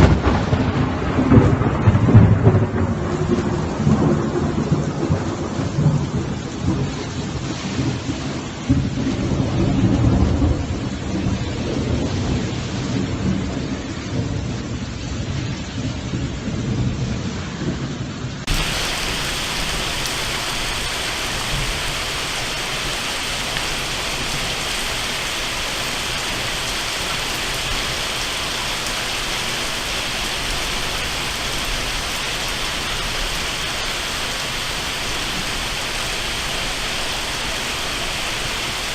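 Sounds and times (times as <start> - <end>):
thunder rumbling: 0.0 - 15.0, 15.8 - 38.9
heavy rain: 0.0 - 38.9.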